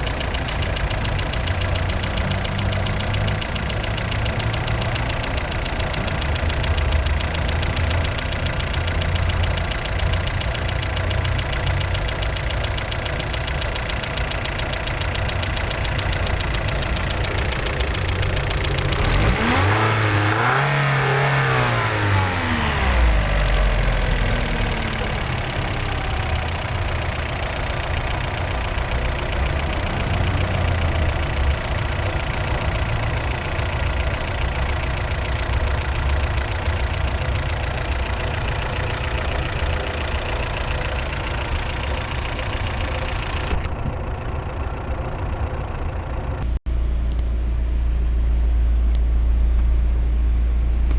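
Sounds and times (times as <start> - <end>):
car engine idling with ticking: 0.0 - 50.9.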